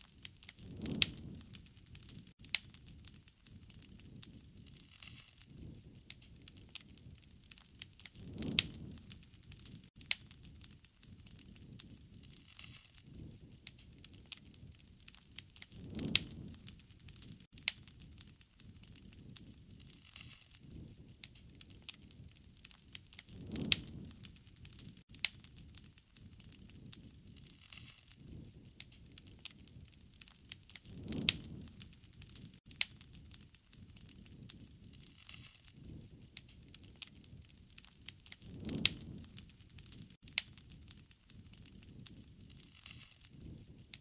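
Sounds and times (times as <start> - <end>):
low rumble of flames: 0.0 - 44.0
wood fire crackling: 0.0 - 44.0.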